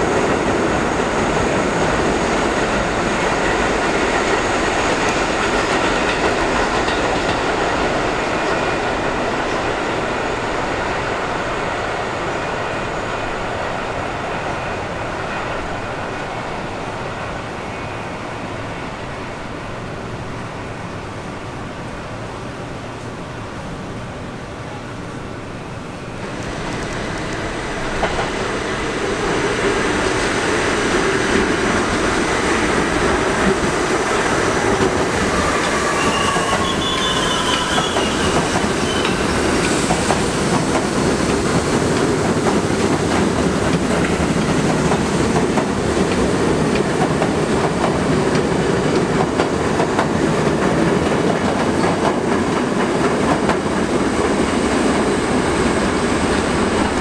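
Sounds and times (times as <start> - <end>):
high squeal of train: 0.0 - 57.0
subway train wheels rumbling: 0.0 - 57.0.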